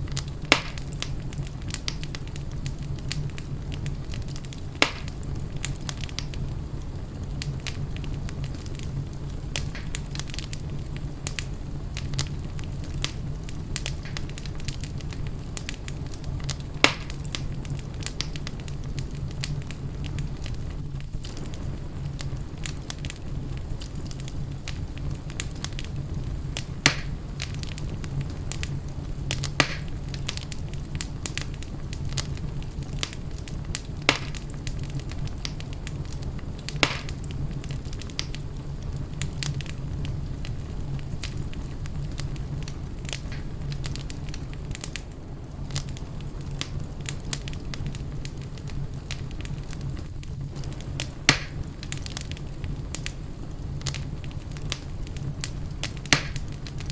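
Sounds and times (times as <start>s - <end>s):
fire crackling: 0.0s - 56.9s
sharp pops of fire: 0.0s - 56.9s.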